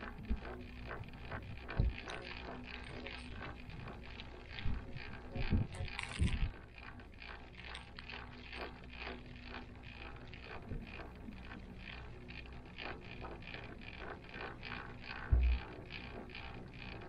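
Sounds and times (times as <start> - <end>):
cable car cabin hum: 0.0 - 17.0
light clicking and rattling: 0.0 - 17.0.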